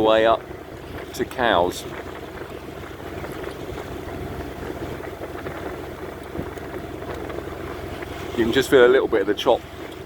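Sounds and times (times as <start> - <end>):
water rushing along hull: 0.0 - 10.0
wind: 0.0 - 10.0.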